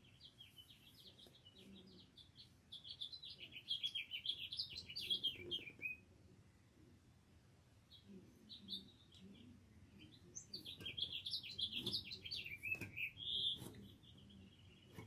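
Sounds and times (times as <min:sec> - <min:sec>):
songbirds chirping and twittering: 0:00.0 - 0:15.0.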